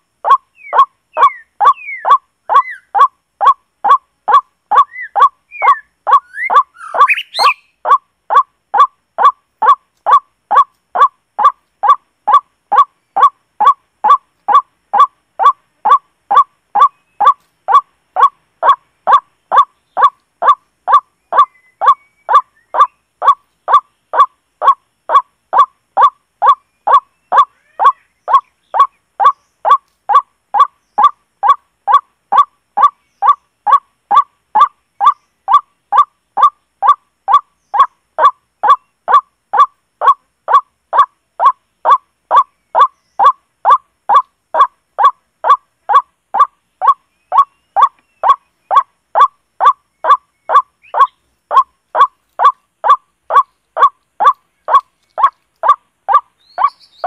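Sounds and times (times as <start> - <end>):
harsh bird call from electronic caller: 0.3 - 35.6, 36.4 - 57.0.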